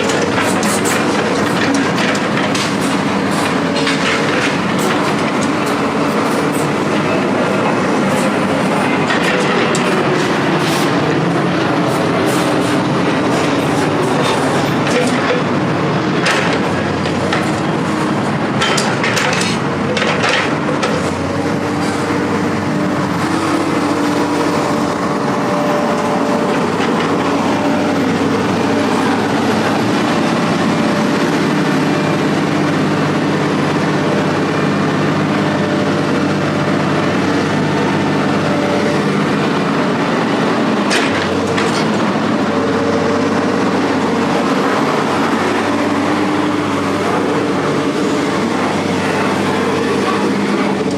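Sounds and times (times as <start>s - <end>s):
heavy engine running: 0.0s - 50.9s.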